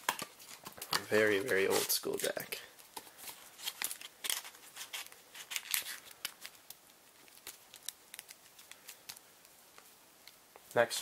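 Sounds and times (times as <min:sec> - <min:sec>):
playing cards clicking and scraping: 0:00.0 - 0:09.3.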